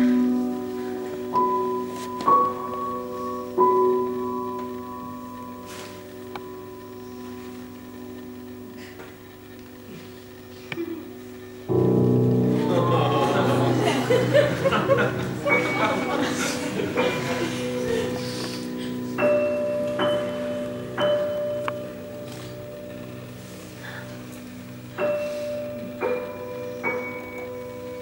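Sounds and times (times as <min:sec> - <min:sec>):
slow piano notes ringing: 0:00.0 - 0:28.0.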